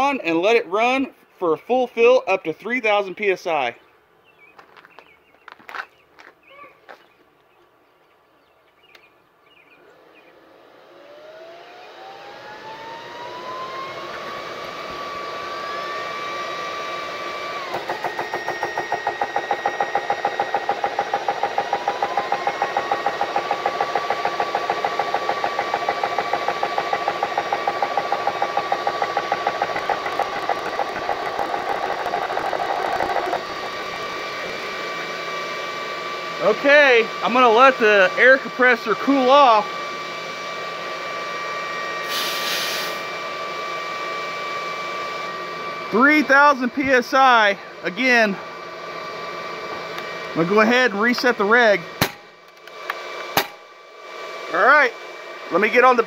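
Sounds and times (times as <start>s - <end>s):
air compressor running: 9.9s - 56.0s.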